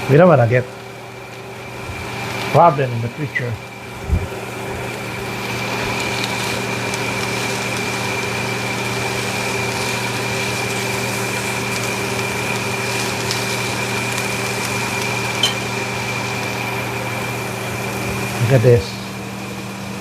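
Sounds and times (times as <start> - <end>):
fan motor humming: 0.0 - 20.0.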